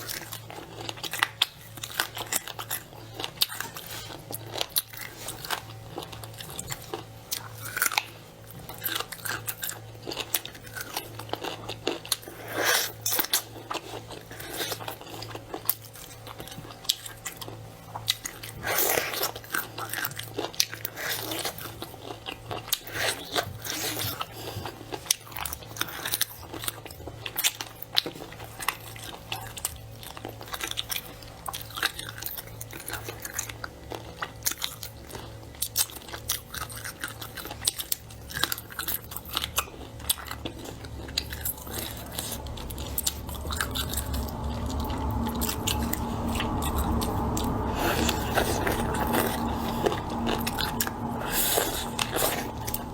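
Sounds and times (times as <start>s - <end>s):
steady noise beneath chewing: 0.0s - 52.9s.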